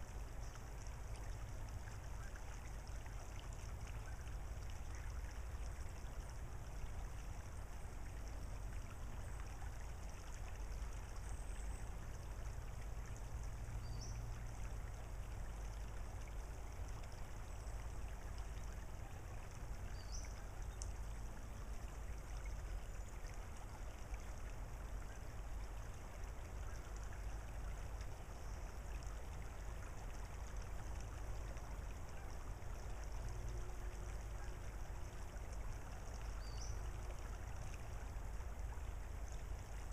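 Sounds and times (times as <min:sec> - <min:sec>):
creek trickling over gravel: 0:00.0 - 0:39.9.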